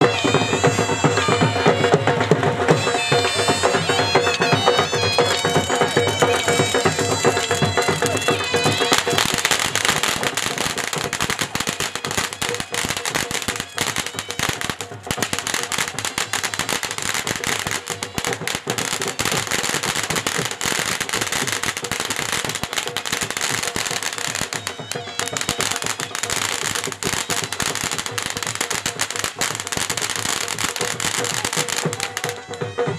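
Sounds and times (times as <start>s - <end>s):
firecrackers bangs and crackles: 0.0s - 32.9s.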